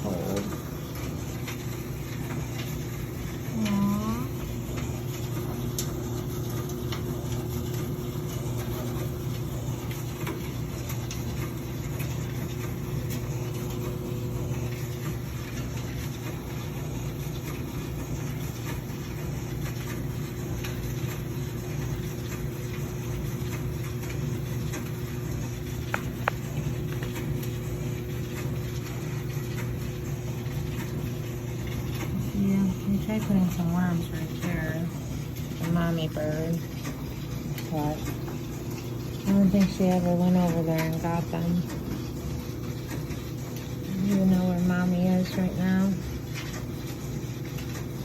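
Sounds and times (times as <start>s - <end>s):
motor humming: 0.0s - 48.0s.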